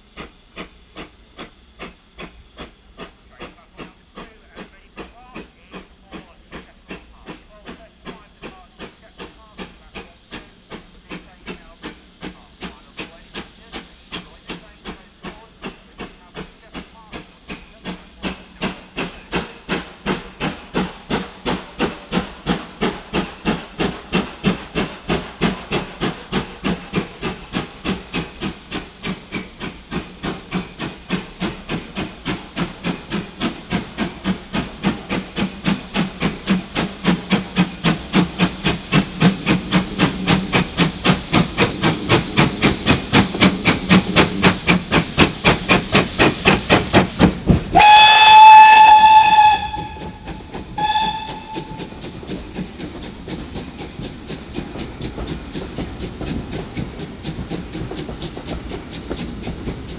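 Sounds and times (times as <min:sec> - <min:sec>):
steam locomotive exhaust chuffs: 0:00.0 - 0:59.9.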